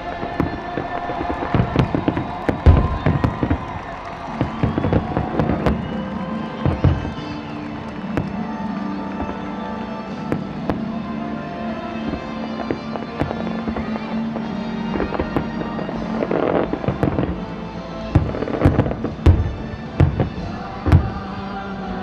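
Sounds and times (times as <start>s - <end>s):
fireworks bursting: 0.0s - 22.0s
music playing: 0.0s - 22.0s.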